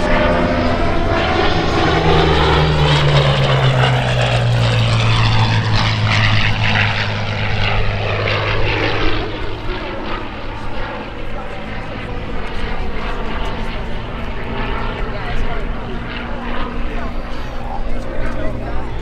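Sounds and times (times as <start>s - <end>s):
propeller aircraft engine flypast: 0.0s - 19.0s.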